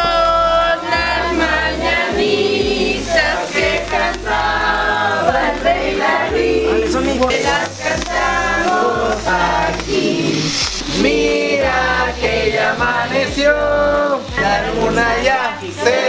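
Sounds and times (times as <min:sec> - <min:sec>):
music with pulsing bass: 0:00.0 - 0:16.0
voices singing together: 0:00.0 - 0:16.0.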